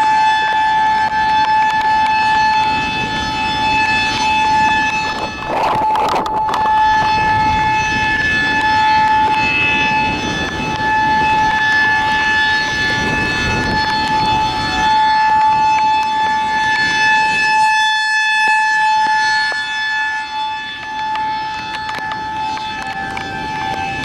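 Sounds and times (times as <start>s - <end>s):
high-pitched warning siren: 0.0s - 24.0s
rain and wind: 0.0s - 24.0s.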